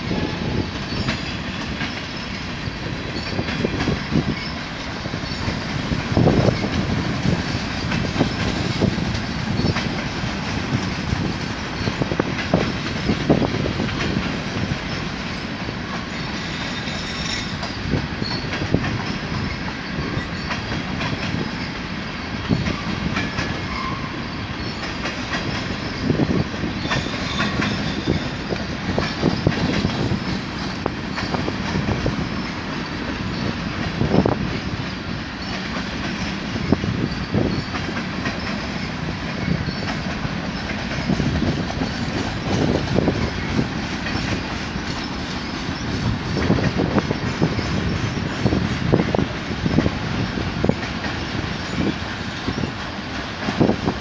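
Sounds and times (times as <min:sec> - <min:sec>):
wheels clacking over rail joints: 0:00.0 - 0:54.0.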